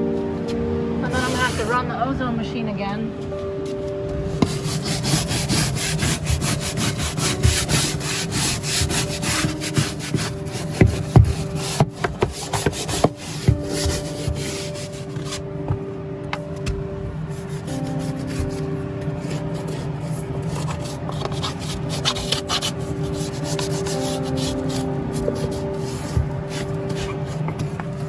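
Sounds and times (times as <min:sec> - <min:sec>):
scraping on wooden flooring: 0:04.3 - 0:28.0.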